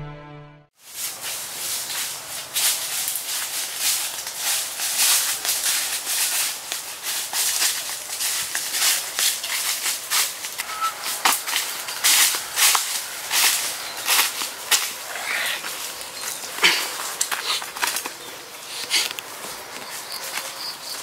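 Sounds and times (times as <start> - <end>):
footsteps crunching through dry leaves: 0.8 - 21.0.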